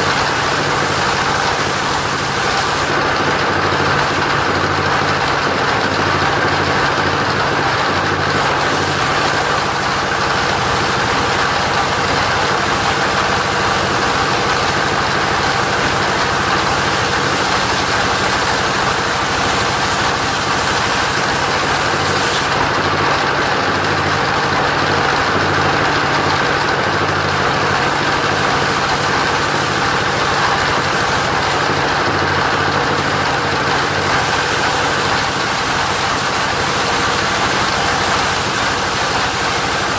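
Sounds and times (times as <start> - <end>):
mobile sawmill sawing timber: 0.0 - 39.9.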